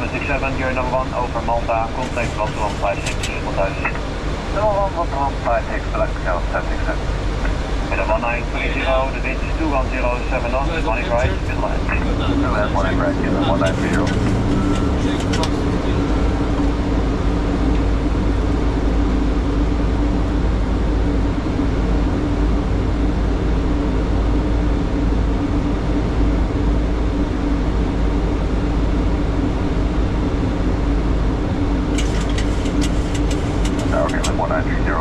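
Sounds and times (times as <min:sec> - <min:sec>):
aircraft engine drone and airflow: 0:00.0 - 0:35.0.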